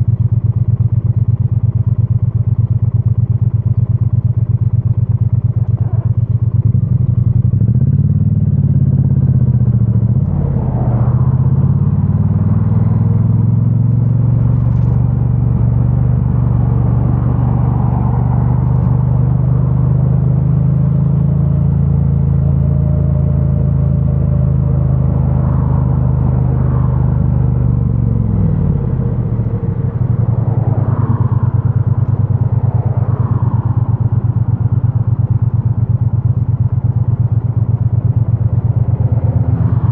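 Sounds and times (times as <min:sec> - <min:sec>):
motorcycle engine revving: 0:00.0 - 0:20.6, 0:23.2 - 0:39.9.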